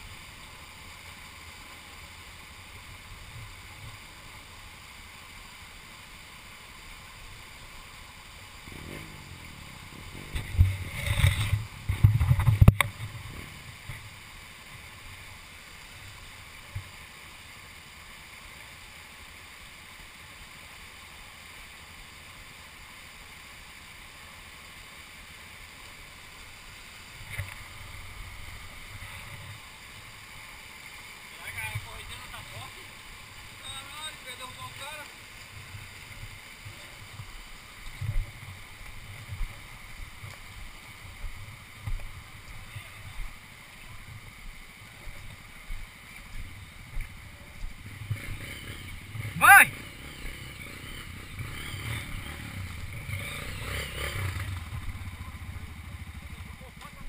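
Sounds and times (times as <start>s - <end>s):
river rushing over stones: 0.0s - 57.0s.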